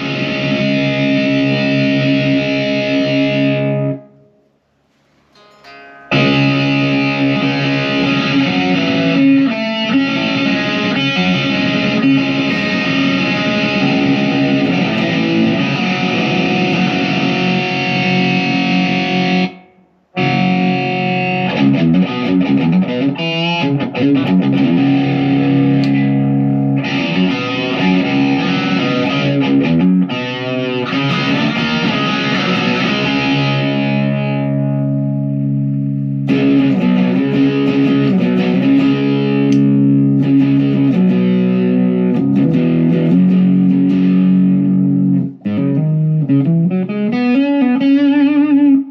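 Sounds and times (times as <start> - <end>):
distorted electric guitar chords: 0.0 - 48.9.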